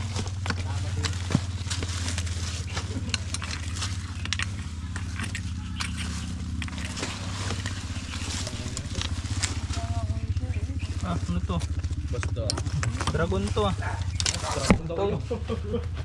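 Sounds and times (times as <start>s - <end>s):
clicks crackles and scrapes: 0.0s - 14.9s
engine humming: 0.0s - 16.0s.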